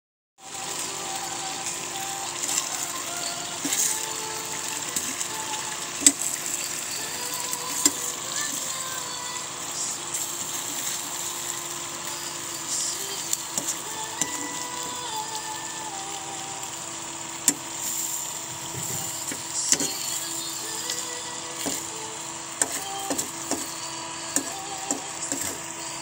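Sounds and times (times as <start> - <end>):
food sizzling in a pan: 0.4 - 26.0.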